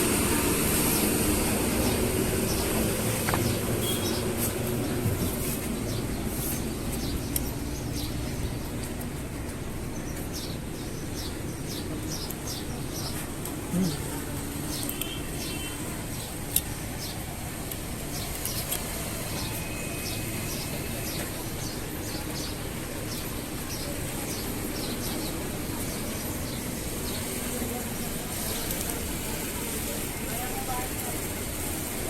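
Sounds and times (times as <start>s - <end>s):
small birds chirping: 1.8s - 9.1s, 9.9s - 30.8s.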